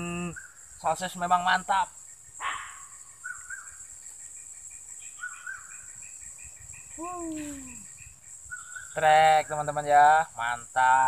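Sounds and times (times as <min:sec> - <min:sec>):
bird chirps: 0:00.0 - 0:11.0
insects droning: 0:00.0 - 0:11.0.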